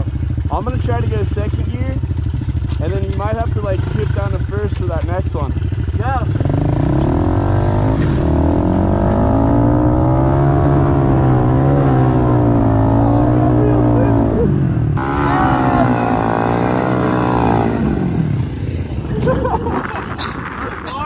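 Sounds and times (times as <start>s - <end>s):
dirt bike engine climbing: 0.0s - 21.0s.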